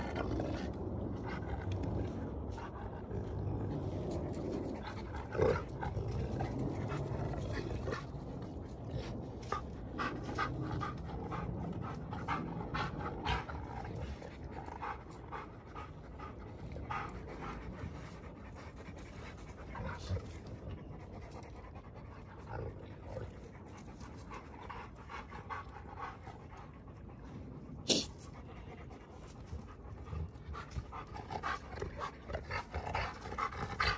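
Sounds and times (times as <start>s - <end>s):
dogs panting hard: 0.0s - 33.9s.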